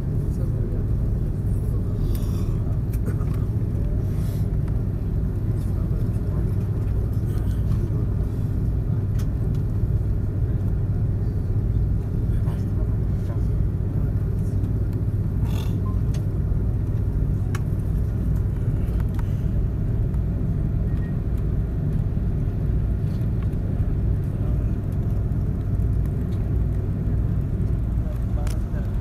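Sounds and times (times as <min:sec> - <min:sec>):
jet engines idling rumble: 0:00.0 - 0:29.0
wheels rolling on taxiway: 0:00.0 - 0:29.0.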